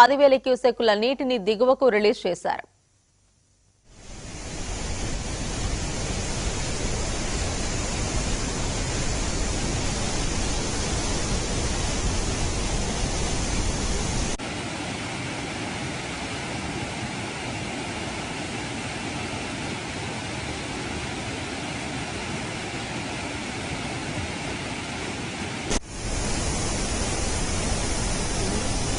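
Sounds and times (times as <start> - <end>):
floodwater rushing: 4.0 - 28.9.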